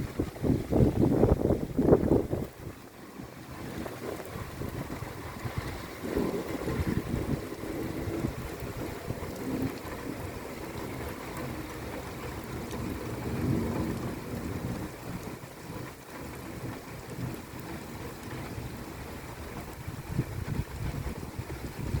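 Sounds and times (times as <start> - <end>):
rain beating on window: 0.0 - 22.0.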